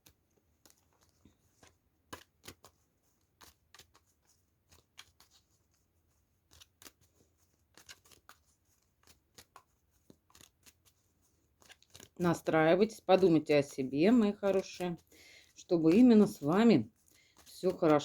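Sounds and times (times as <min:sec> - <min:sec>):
cards being shuffled: 0:00.0 - 0:18.0.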